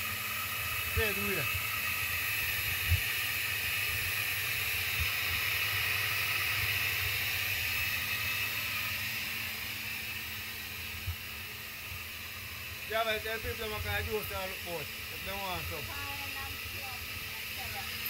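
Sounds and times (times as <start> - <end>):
electric blender running: 0.0 - 18.0.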